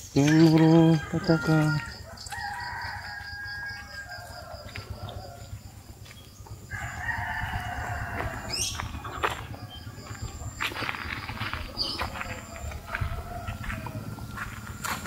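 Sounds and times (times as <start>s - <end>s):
rooster crowing: 0.2s - 5.9s, 6.6s - 10.2s, 12.1s - 15.0s.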